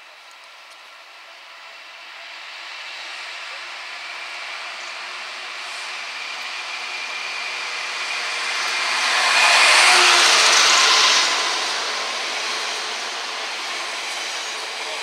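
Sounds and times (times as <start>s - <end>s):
diesel locomotive passing: 0.0s - 15.0s
freight wagons rolling on rails: 0.0s - 15.0s.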